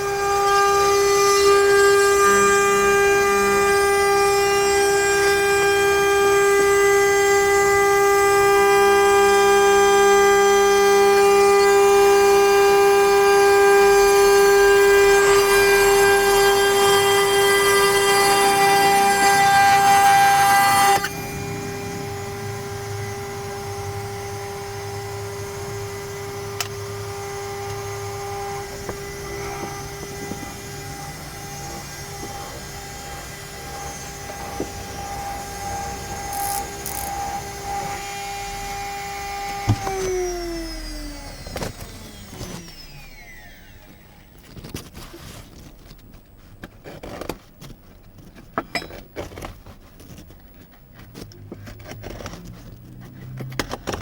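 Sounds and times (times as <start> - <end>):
router spindle whine: 0.0 - 46.0.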